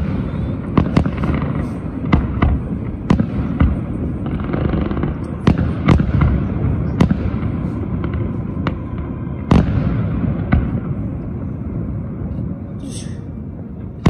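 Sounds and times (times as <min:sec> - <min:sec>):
firework shells booming: 0:00.0 - 0:11.3
low rumble of echoing bangs: 0:00.0 - 0:14.0.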